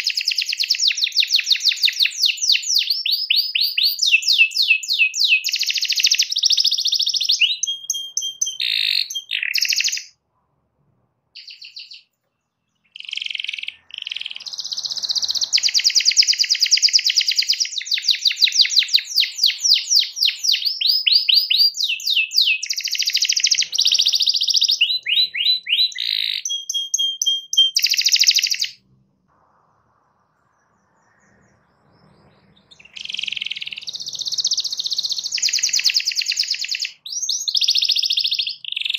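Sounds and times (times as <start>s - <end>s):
canary singing trills: 0.0s - 10.2s, 11.4s - 28.9s, 29.9s - 38.9s.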